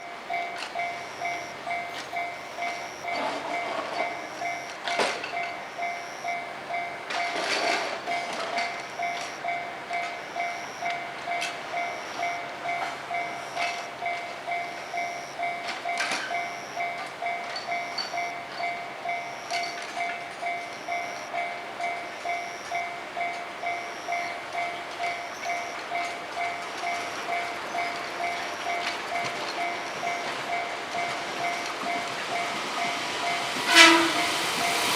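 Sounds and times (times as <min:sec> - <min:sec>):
level-crossing alarm ringing: 0:00.0 - 0:34.9.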